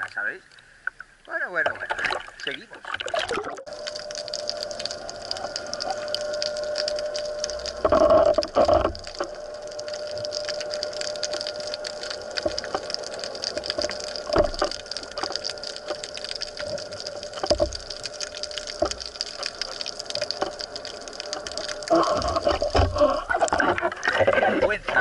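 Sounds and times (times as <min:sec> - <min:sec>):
faint steady hum: 0:00.0 - 0:25.0
underwater watery wash: 0:00.0 - 0:25.0
gurgling rushes of water: 0:00.9 - 0:25.0.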